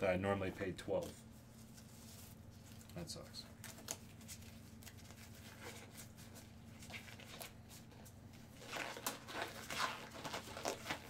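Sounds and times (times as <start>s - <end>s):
faint steady hum: 0.0s - 11.0s
rustling and crinkling: 0.4s - 11.0s.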